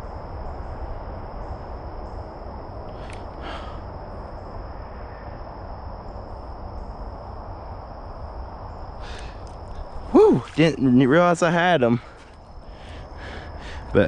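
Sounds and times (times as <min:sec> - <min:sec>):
insects trilling: 0:00.0 - 0:14.0
low outdoor rumble: 0:00.0 - 0:14.0.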